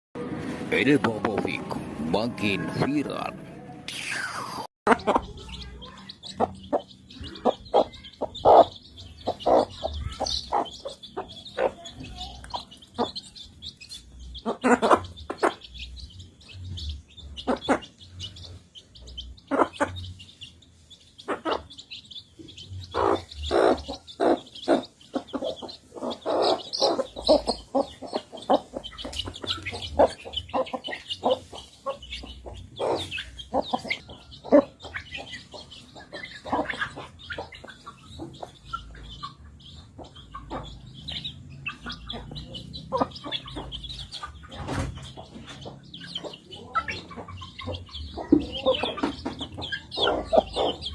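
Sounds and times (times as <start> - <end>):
chickens pecking and clucking: 4.1 - 50.9.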